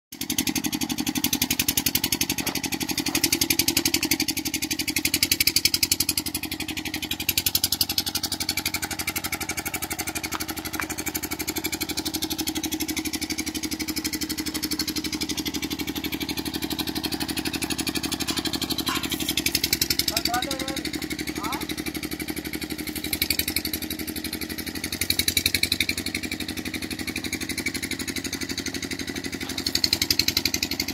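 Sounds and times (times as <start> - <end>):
small engine running: 0.2 - 30.9.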